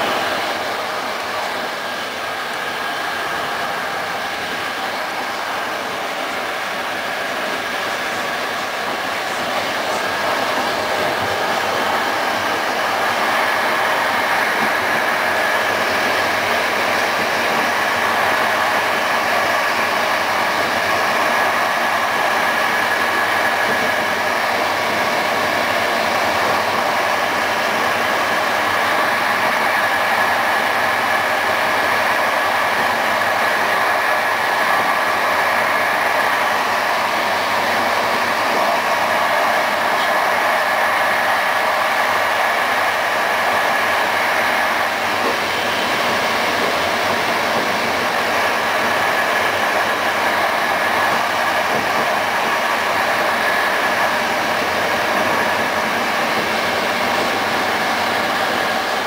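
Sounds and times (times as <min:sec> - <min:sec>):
train wheels rolling on rail: 0:00.0 - 0:59.0.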